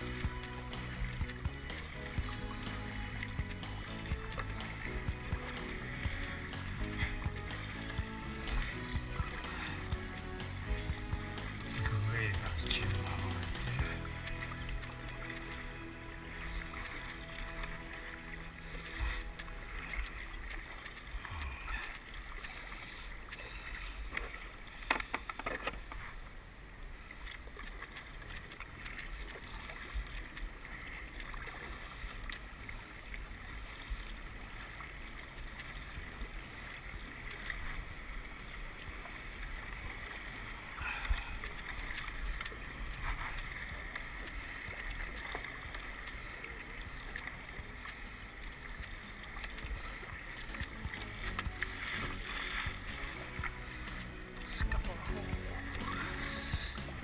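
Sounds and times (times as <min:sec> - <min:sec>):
kayak paddle splashing: 0:00.0 - 0:57.0
water sloshing against hull: 0:00.0 - 0:57.0.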